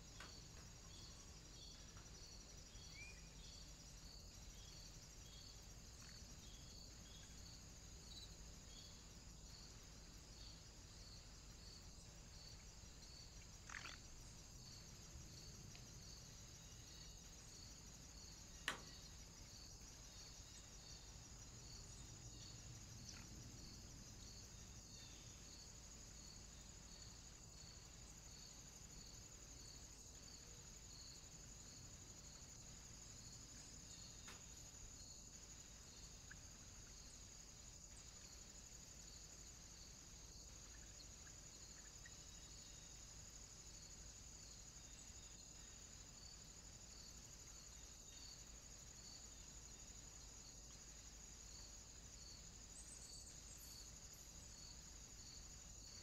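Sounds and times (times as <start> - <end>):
high-pitched insect-like chirp: 0.0 - 9.7, 10.4 - 56.0.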